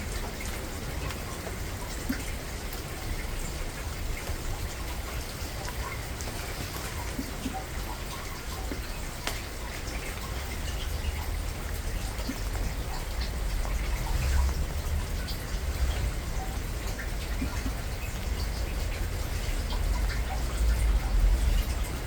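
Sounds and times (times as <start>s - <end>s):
raindrops ticking: 0.0s - 22.0s
steady rain falling: 0.0s - 22.0s.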